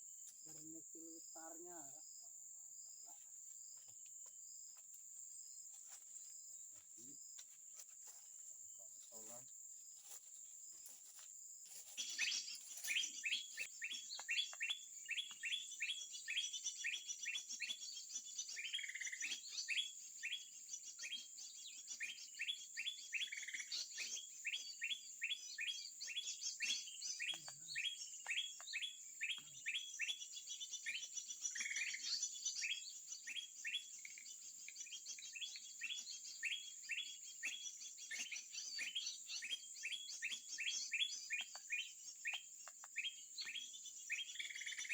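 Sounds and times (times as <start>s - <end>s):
bird chirping: 0.0s - 10.0s, 11.8s - 44.9s
insect drone: 0.0s - 44.9s.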